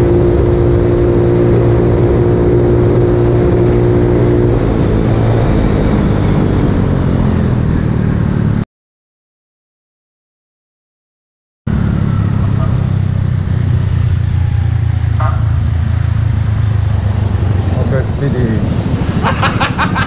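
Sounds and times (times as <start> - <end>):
road and wind noise: 0.0 - 8.6, 11.7 - 20.0
vehicle engine running: 0.0 - 8.6, 11.7 - 20.0.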